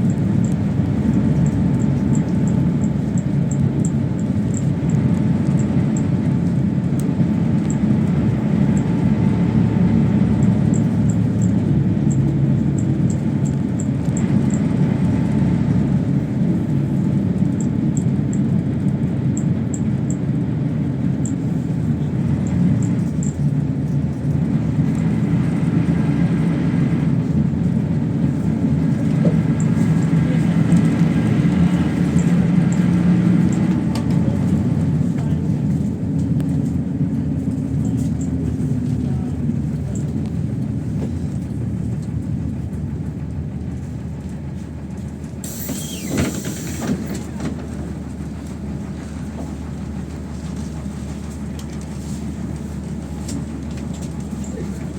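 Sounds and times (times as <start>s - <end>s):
bus engine running: 0.0s - 54.9s
road rumble: 0.0s - 54.9s.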